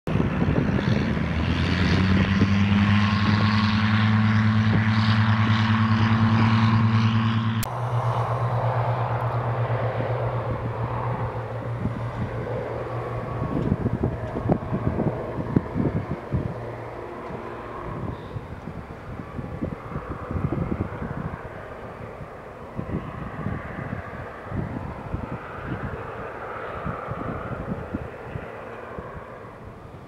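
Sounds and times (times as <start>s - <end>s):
helicopter rotors beating: 0.1s - 30.0s.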